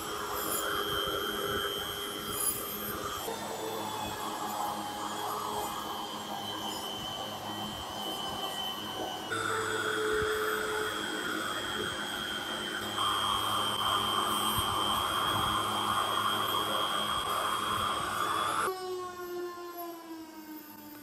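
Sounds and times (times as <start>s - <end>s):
buffing wheel hissing on metal: 0.0s - 18.7s
rotary tool whining: 0.0s - 19.8s.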